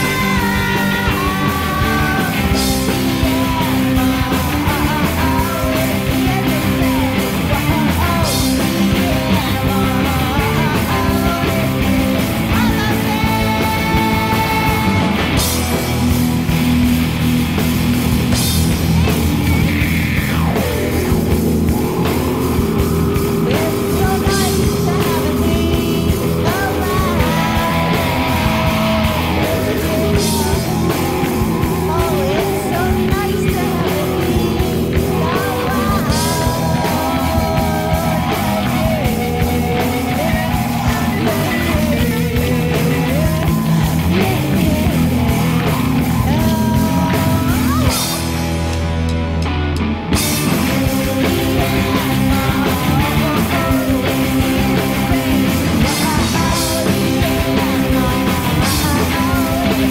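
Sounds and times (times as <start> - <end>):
rock song with singing: 0.0 - 59.9.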